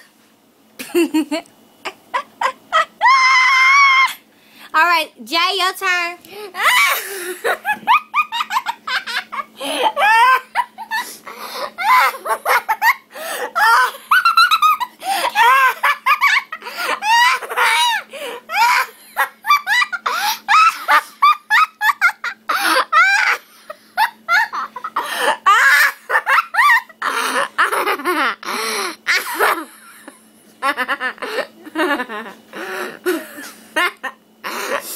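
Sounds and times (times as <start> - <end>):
child laughing: 0.8 - 4.2, 6.5 - 11.1, 11.7 - 32.4.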